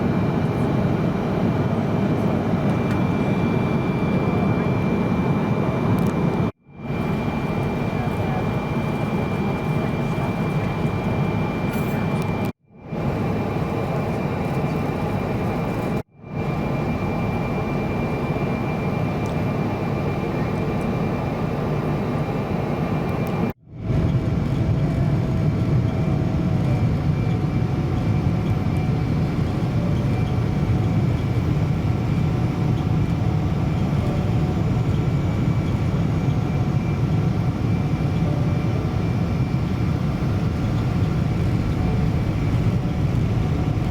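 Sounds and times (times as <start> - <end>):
airliner cabin roar: 0.0 - 43.9.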